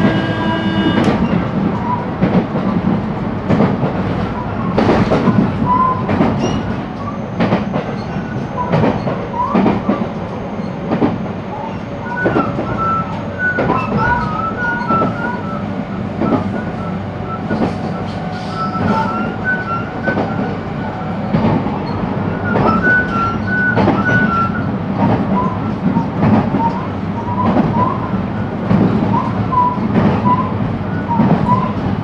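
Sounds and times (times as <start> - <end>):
train rolling noise: 0.0 - 32.0.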